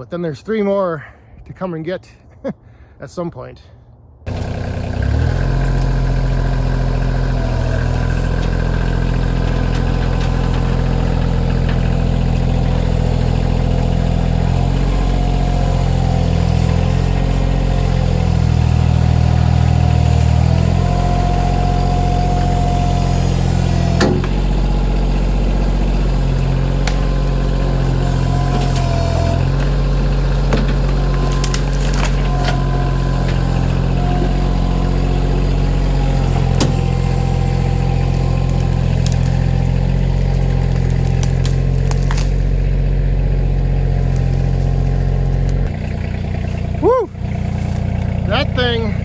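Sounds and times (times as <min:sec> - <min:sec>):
tractor diesel engine working: 0:04.3 - 0:49.0.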